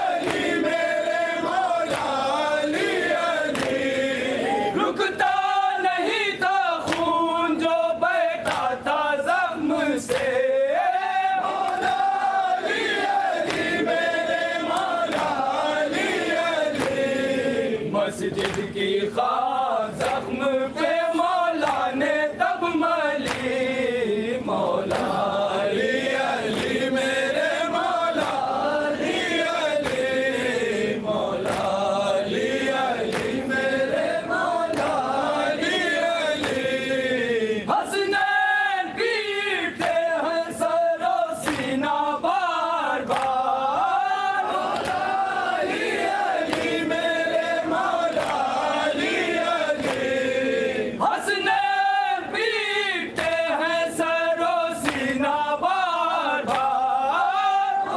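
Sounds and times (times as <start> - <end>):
men chanting a lament: 0.0 - 57.9.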